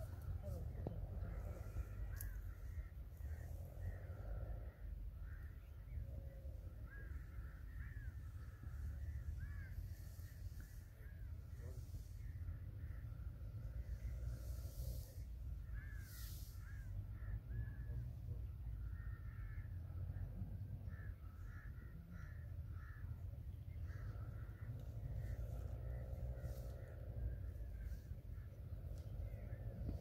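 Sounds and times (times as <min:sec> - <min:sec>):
birds calling: 0:00.0 - 0:30.0
steady low rumble: 0:00.0 - 0:30.0.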